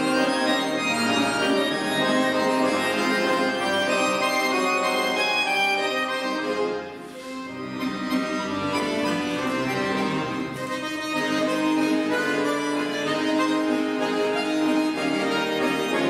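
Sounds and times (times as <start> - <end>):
accordion trio playing chords: 0.0 - 16.0.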